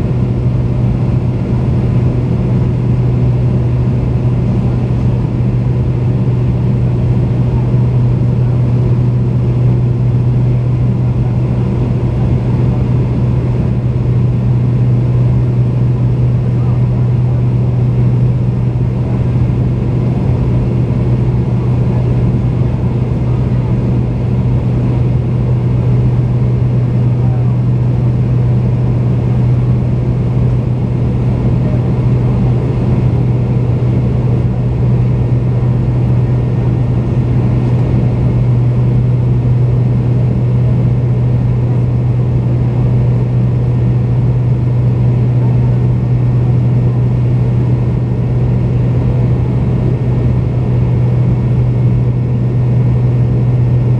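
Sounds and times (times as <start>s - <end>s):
airliner cabin drone: 0.0s - 53.9s.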